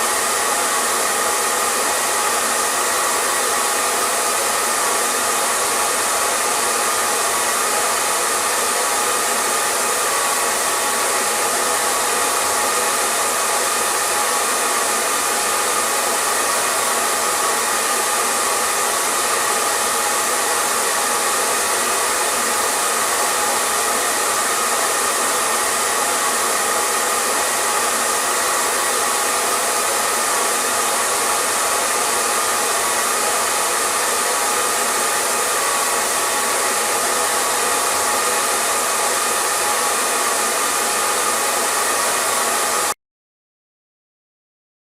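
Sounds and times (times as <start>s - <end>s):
hair dryer running: 0.0s - 43.0s.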